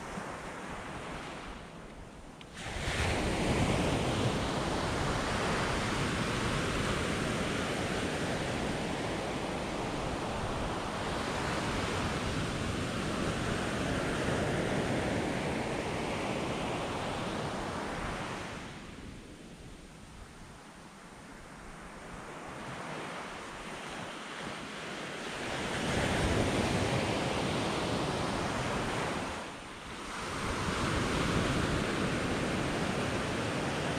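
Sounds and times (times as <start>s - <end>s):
ocean surf breaking on beach: 2.5s - 33.9s.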